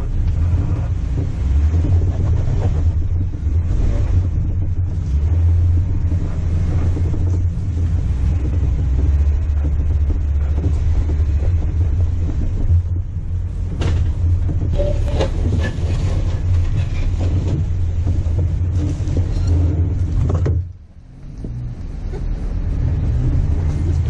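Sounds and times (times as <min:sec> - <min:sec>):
engine and tyre rumble: 0:00.0 - 0:24.0.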